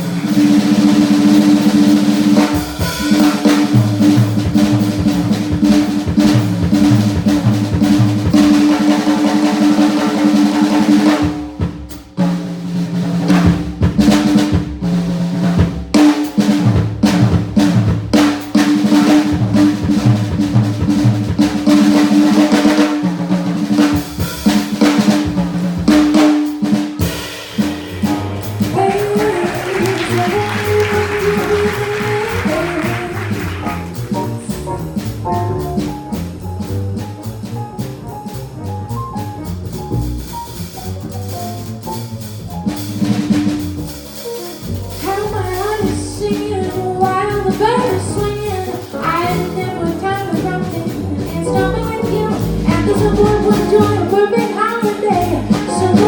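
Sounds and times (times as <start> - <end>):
jazz band instruments: 0.0 - 56.0
jazz drum solo: 0.0 - 56.0.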